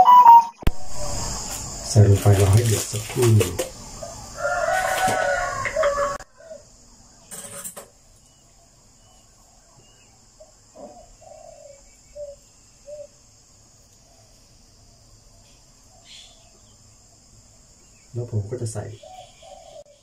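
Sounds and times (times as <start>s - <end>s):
insects droning: 0.1s - 20.0s.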